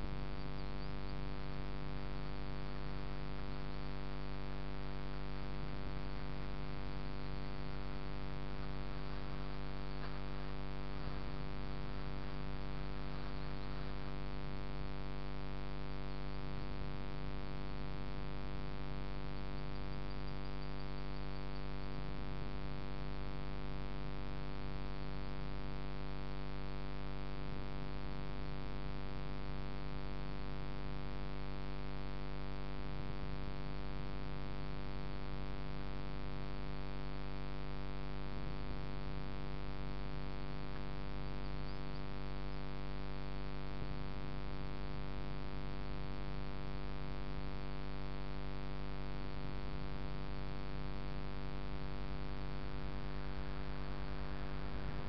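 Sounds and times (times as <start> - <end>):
buzzy electrical hum: 0.0 - 55.0.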